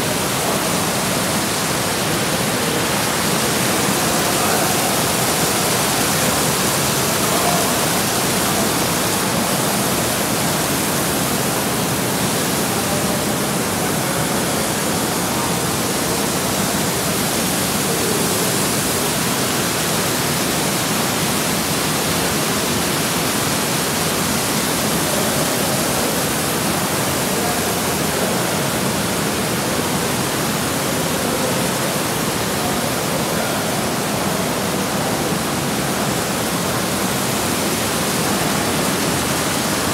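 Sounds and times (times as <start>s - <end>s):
water jets splashing into pools: 0.0s - 39.9s.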